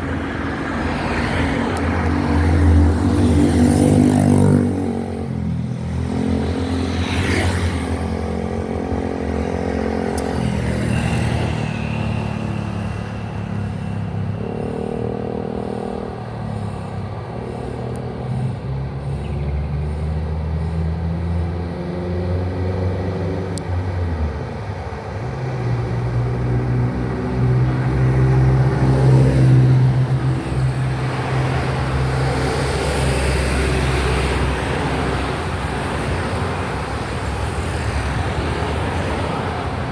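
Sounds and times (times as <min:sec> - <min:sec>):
passing vehicle engines: 0:00.0 - 0:39.9.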